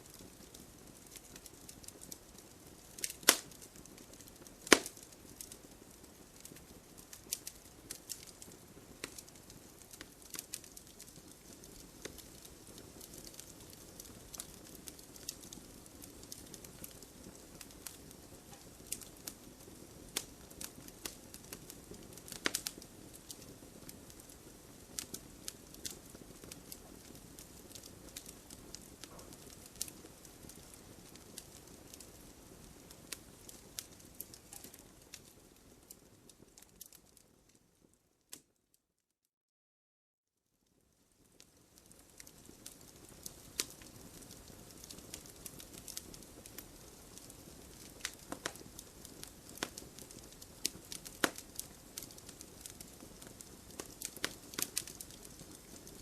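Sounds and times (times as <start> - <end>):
fire crackling and popping: 0.0 - 38.6, 40.7 - 56.0.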